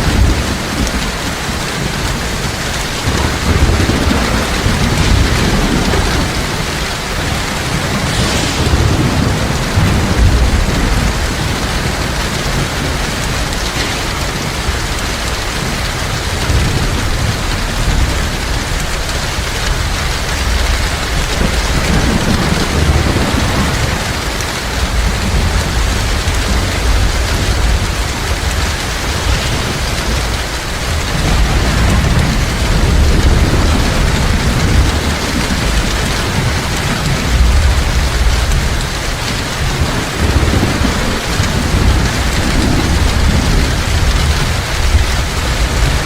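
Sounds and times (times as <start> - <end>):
heavy rain falling: 0.0 - 46.0
low thunder rumbling: 0.0 - 46.0.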